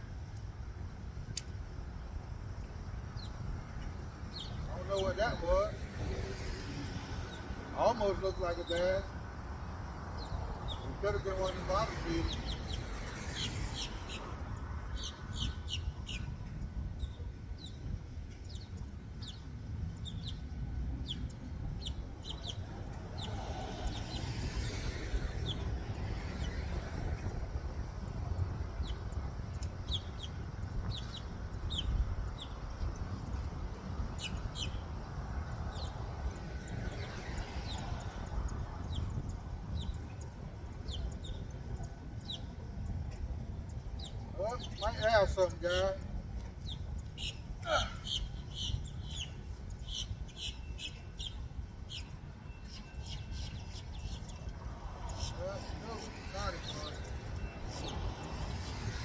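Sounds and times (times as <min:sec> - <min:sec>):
steady low rumble: 0:00.0 - 0:59.0
small birds chirping: 0:01.2 - 0:27.9, 0:28.7 - 0:59.0.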